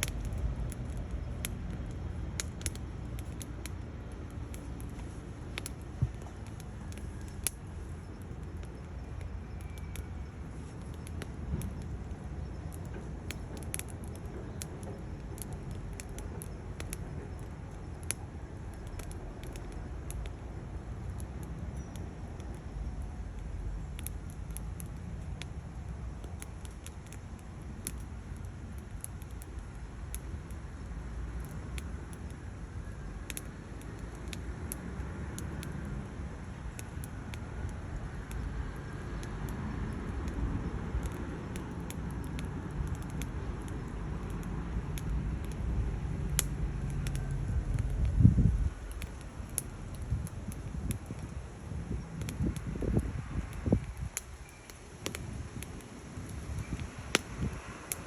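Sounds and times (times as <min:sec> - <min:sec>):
low stove rumble: 0:00.0 - 0:58.0
wood fire crackling and popping: 0:00.0 - 0:58.0.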